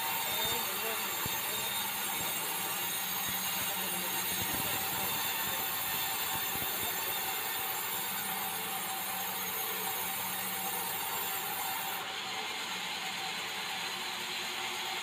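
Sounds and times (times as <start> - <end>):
band saw whirring drone: 0.0 - 15.0.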